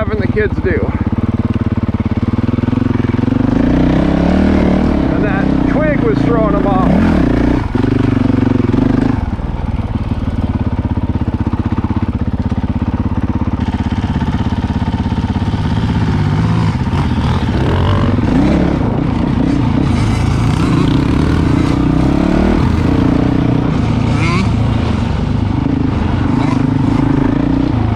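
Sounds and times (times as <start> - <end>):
motorcycle engine chugging and revving: 0.0 - 27.9.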